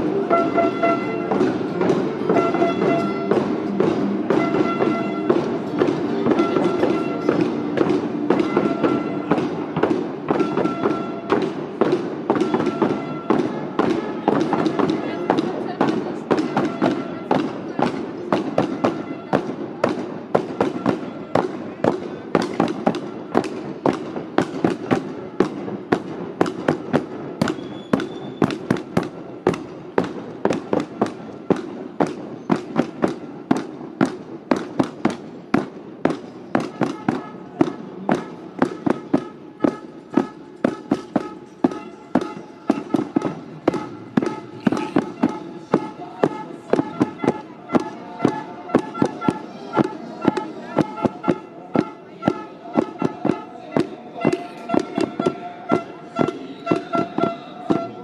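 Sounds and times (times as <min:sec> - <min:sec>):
hand drum marching rhythm: 0:00.0 - 0:58.0
voices: 0:00.0 - 0:58.0.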